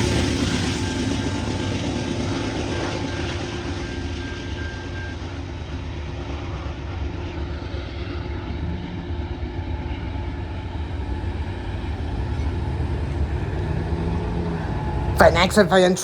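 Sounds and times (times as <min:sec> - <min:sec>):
freight train rumbling on rails: 0:00.0 - 0:16.0.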